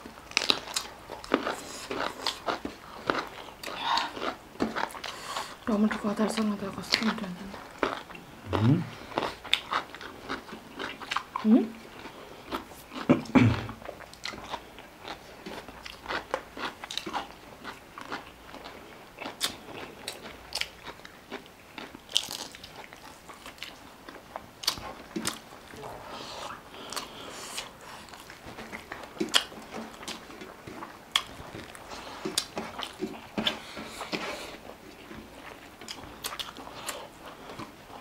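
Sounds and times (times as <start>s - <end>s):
chewing: 0.0s - 38.0s.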